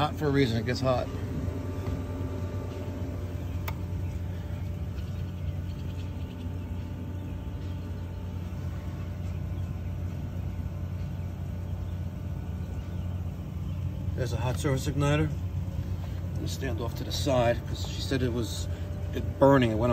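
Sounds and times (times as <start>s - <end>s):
pool equipment humming: 0.0s - 19.9s.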